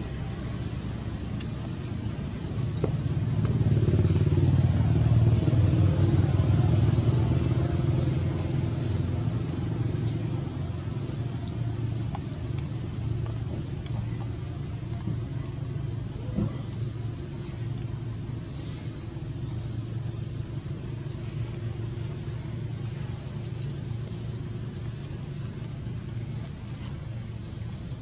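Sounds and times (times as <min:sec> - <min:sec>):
engine rumbling: 0:00.0 - 0:28.0
high insect drone: 0:00.0 - 0:28.0.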